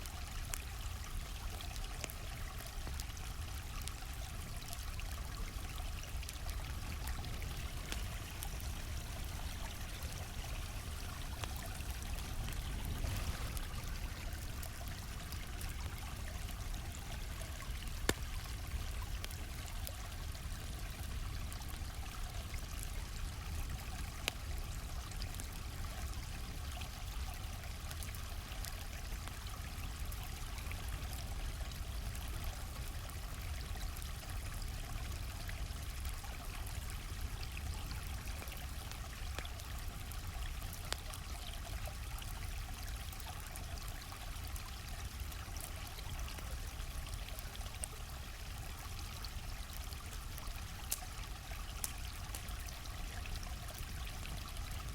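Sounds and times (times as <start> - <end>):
campfire crackling and popping: 0.0 - 54.9
stream flowing: 0.0 - 54.9.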